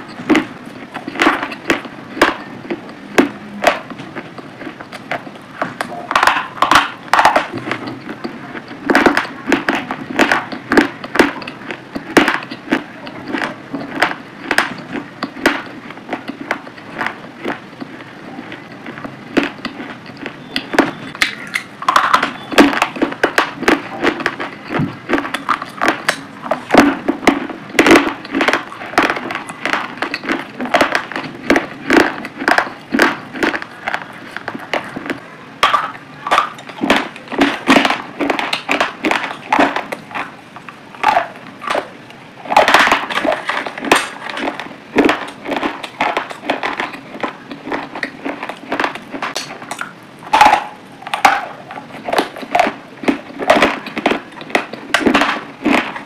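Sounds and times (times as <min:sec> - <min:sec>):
chewing crunches and clicks: 0:00.0 - 0:56.0.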